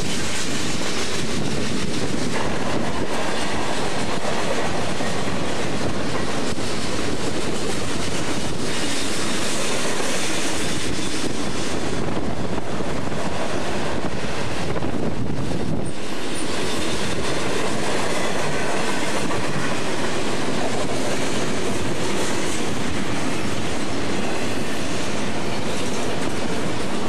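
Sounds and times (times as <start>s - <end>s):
freight train wheels rumbling on rails: 0.0s - 27.0s.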